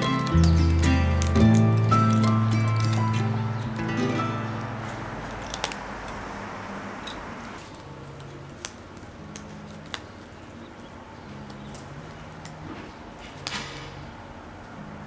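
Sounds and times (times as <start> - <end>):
quiet background music: 0.0 - 5.7, 7.6 - 15.0.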